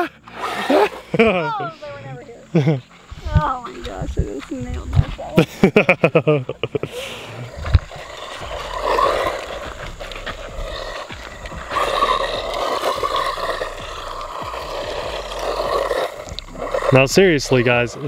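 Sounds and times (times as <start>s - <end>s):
rc car driving on gravel: 0.0s - 18.0s.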